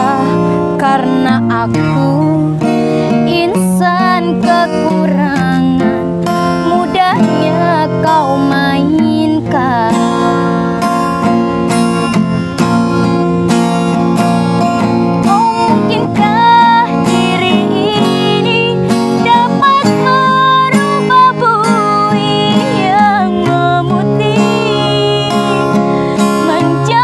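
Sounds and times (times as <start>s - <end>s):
woman singing: 0.0s - 10.7s, 14.9s - 27.0s
acoustic guitar strumming: 0.0s - 27.0s.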